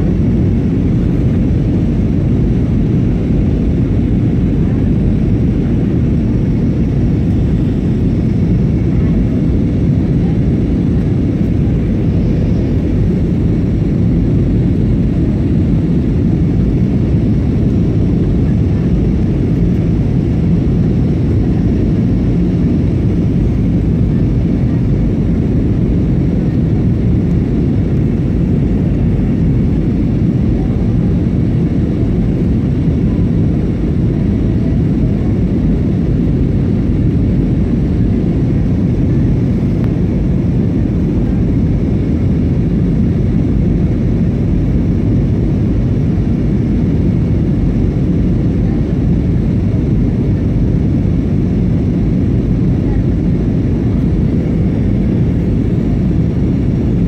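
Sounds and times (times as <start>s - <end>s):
airplane engines rumbling: 0.0s - 57.0s.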